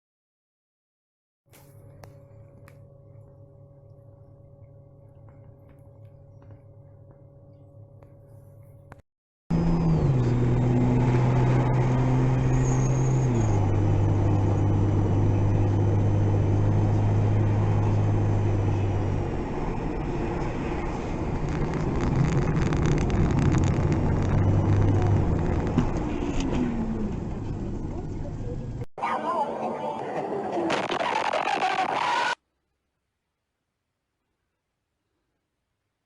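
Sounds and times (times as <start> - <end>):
vehicle engine droning: 1.6 - 32.0.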